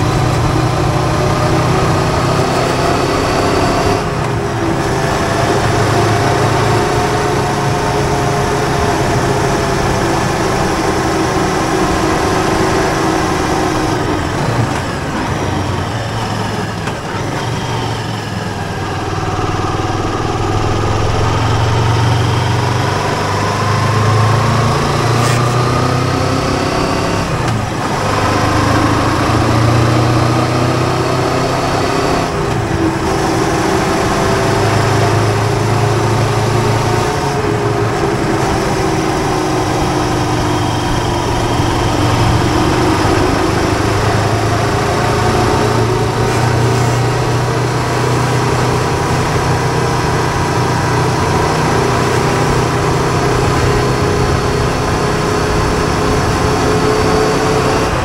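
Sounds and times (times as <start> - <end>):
motorcycle engine running: 0.0 - 31.4, 32.3 - 58.0.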